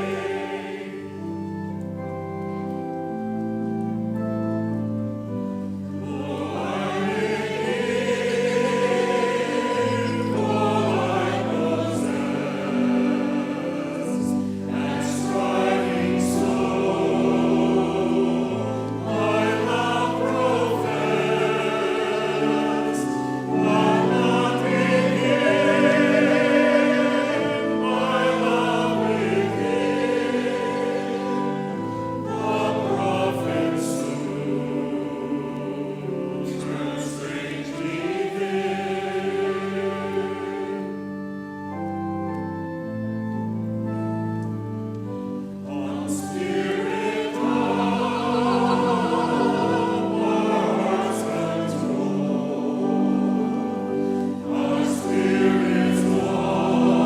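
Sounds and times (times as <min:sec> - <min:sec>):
choir singing: 0:00.0 - 0:57.0
organ chords: 0:00.0 - 0:57.0.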